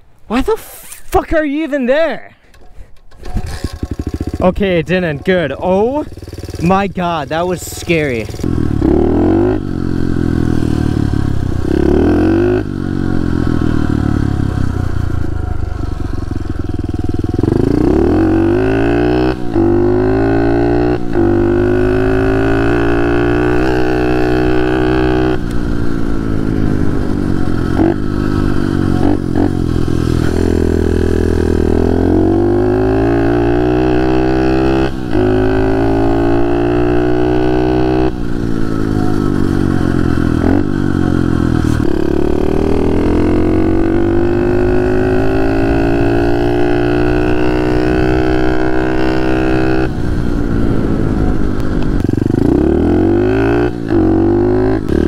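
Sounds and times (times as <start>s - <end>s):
pit bike engine revving: 3.1s - 55.0s.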